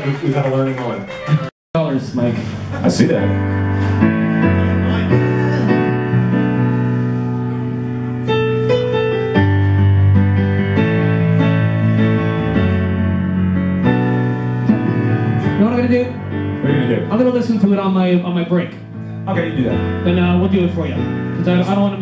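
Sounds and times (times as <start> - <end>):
piano slow sustained chords: 1.9 - 22.0.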